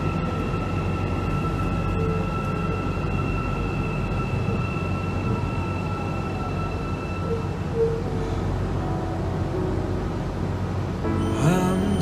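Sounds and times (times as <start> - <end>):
high-pitched whine: 0.0 - 12.0
train rumble: 0.0 - 12.0.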